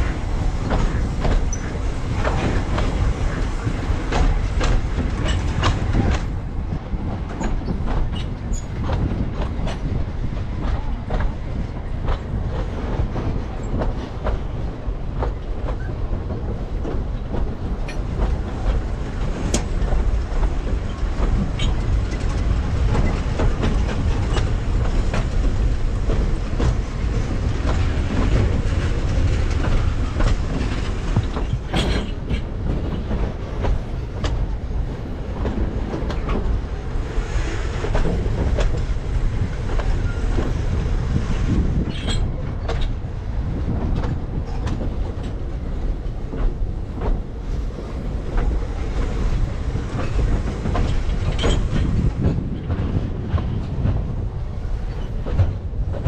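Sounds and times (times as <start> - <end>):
train carriages rumbling: 0.0 - 56.0
wheels clacking over rails: 0.0 - 56.0.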